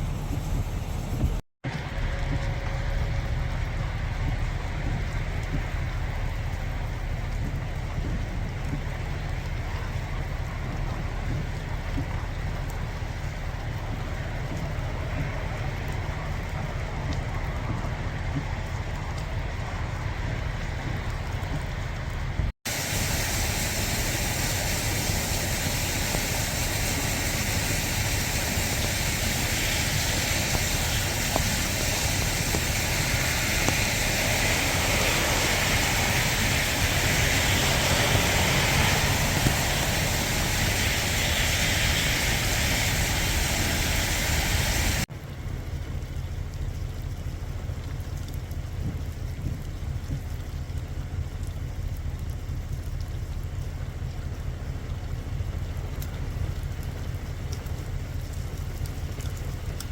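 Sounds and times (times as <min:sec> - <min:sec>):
heavy rain: 0:00.0 - 0:59.9
wind: 0:00.0 - 0:59.9.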